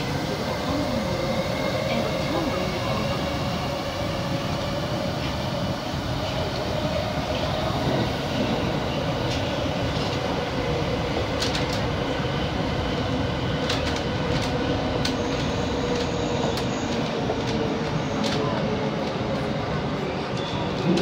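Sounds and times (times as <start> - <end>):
subway train rumbling in tunnel: 0.0 - 21.0.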